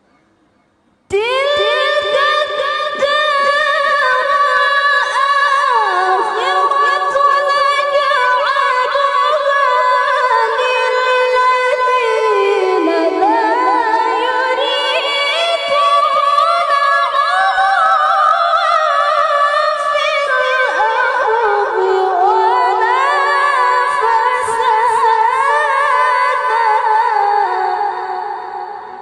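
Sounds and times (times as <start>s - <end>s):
woman reciting in melismatic voice: 1.1s - 29.0s.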